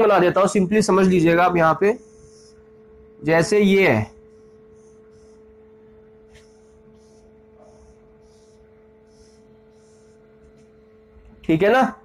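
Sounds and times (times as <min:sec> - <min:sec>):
low electrical hum: 0:00.0 - 0:12.0
marker pen on whiteboard: 0:01.0 - 0:11.6.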